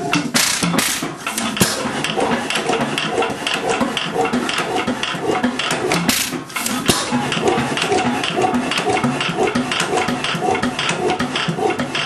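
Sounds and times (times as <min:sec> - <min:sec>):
hoist engine clattering: 0:00.0 - 0:12.0
sharp mechanical knocks: 0:00.0 - 0:12.0.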